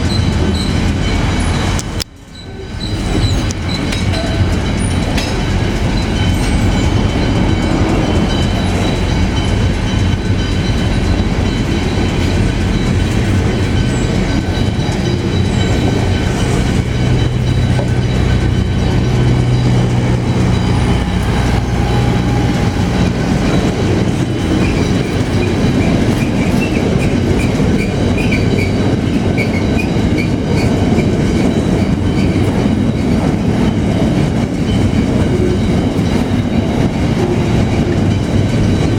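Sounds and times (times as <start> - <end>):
freight train rumble and clatter: 0.0 - 38.9
wheels squealing: 0.0 - 38.9.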